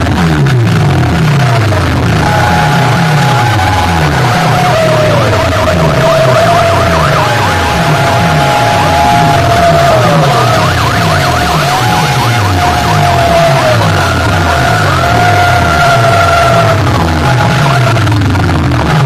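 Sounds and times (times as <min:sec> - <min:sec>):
pounding bass beat: 0:00.0 - 0:19.0
siren-style warbling sound effects: 0:01.2 - 0:19.0.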